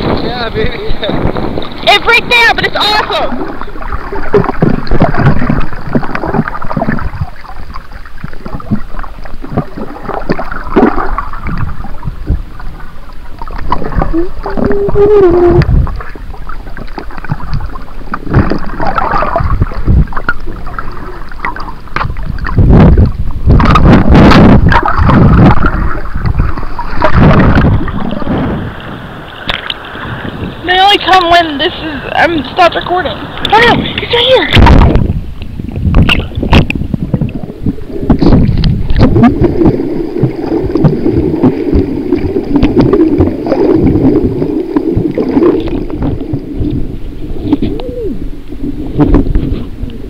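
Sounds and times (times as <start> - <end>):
underwater sloshing and gurgling: 0.0 - 50.0
water splashing: 0.0 - 50.0.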